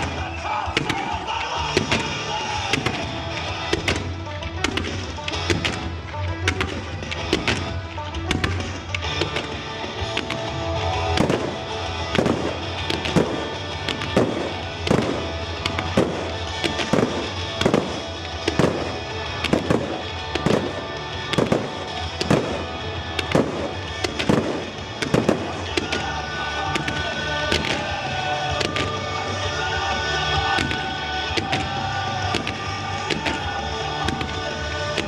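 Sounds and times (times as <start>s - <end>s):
background music: 0.0s - 35.0s
fireworks bangs: 0.0s - 35.0s.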